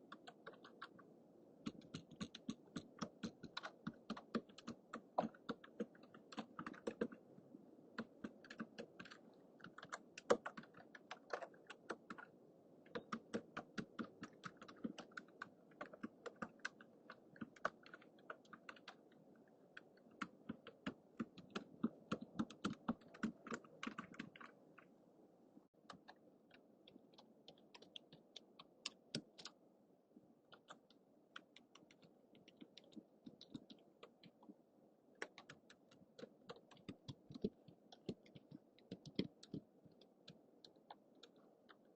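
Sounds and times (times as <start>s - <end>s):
computer keyboard typing: 0.0s - 1.0s, 1.6s - 7.2s, 8.0s - 12.3s, 12.9s - 24.9s, 25.8s - 29.6s, 30.5s - 34.6s, 35.2s - 41.9s.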